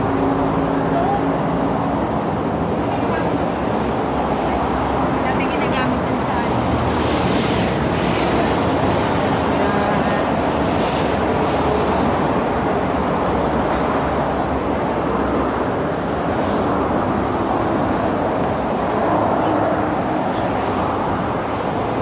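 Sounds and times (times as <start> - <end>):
highway traffic rush: 0.0 - 22.0.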